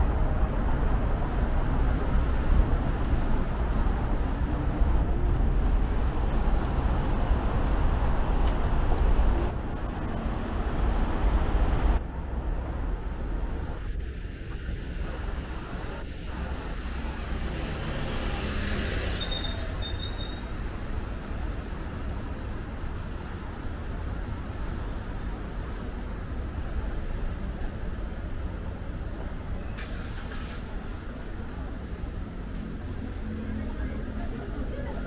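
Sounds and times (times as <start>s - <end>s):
traffic rumble: 0.0s - 35.0s.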